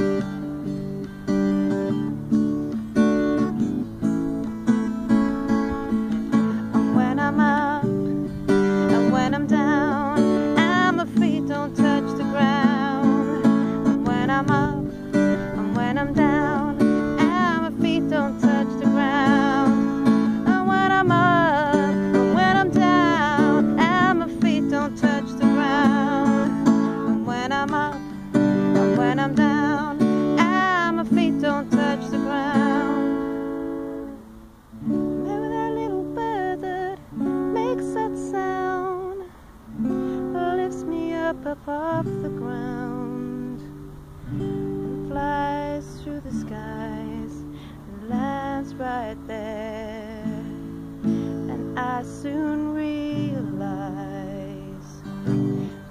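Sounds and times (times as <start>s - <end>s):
acoustic guitar strumming: 0.0s - 55.9s
woman singing with vibrato: 3.0s - 34.2s, 34.8s - 55.9s.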